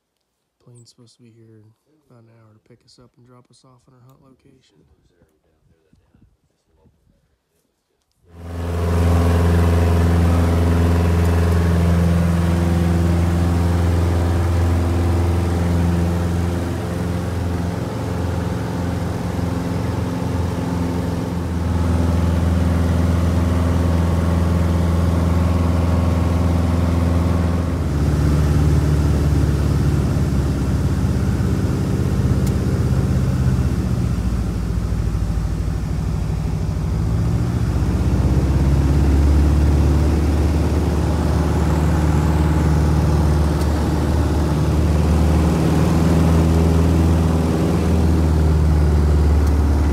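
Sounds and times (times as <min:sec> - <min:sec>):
plane engine and propeller drone: 0:08.3 - 0:49.9.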